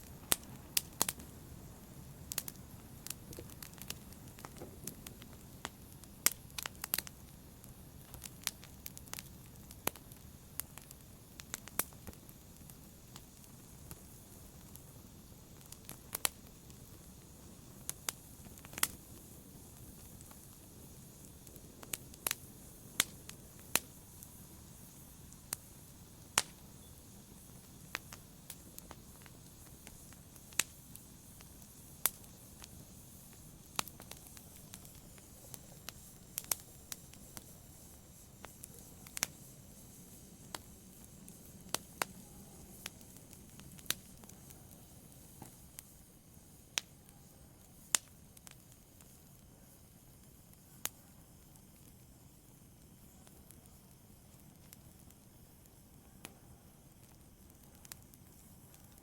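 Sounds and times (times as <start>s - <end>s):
sharp pops of fire: 0.0s - 59.0s
wood fire crackling: 0.0s - 59.0s.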